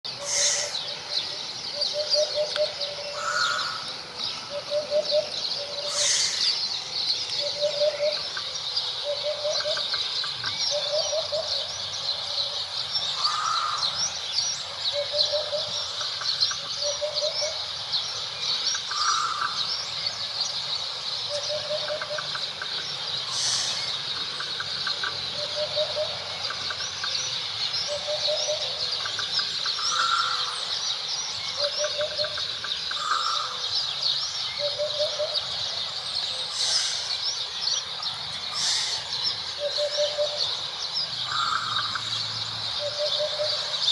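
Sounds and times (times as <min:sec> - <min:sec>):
mid-pitched bird calls: 0:00.1 - 0:43.9.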